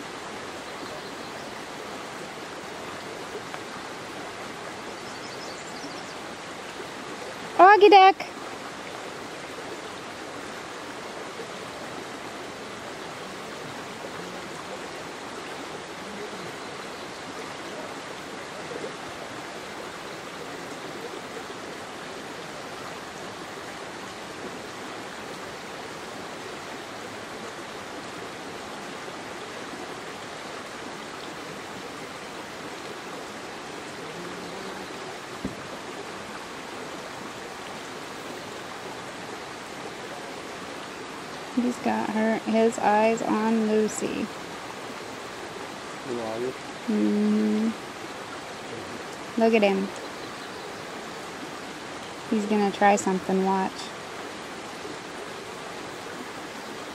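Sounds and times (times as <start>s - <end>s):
creek water rushing: 0.0s - 56.9s.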